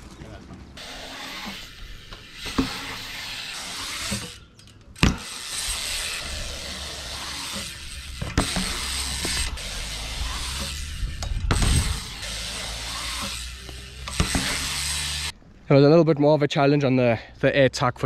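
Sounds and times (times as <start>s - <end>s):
bike tyres rolling on concrete: 0.0s - 15.7s.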